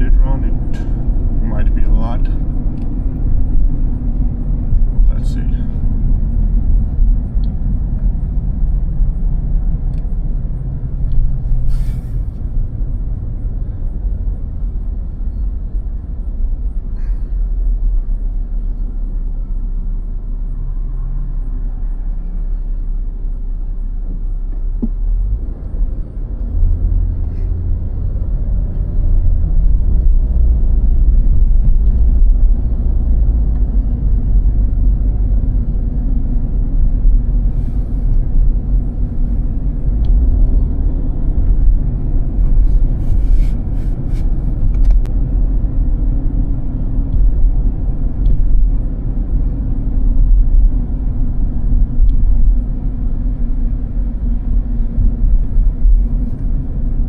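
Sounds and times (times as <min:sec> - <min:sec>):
car driving on snow: 0:00.0 - 0:57.0.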